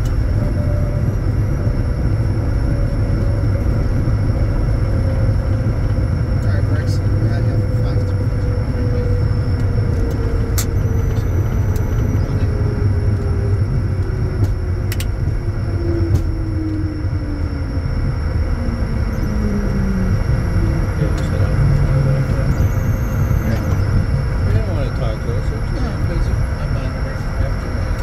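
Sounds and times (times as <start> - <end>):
faint high whine: 0.0 - 28.0
jet cockpit low rumble: 0.0 - 28.0.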